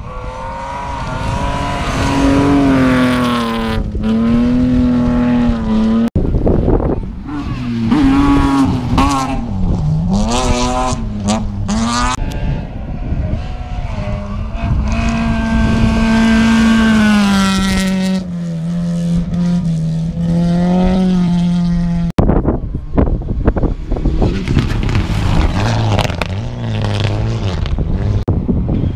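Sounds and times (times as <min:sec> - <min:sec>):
rally car engine revving: 0:00.0 - 0:22.1, 0:23.4 - 0:28.3.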